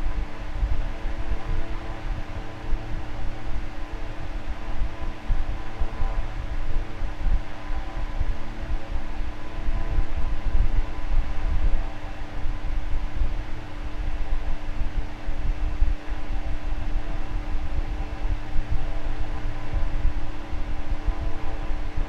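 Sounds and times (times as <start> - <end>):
electric fan running: 0.0 - 22.0.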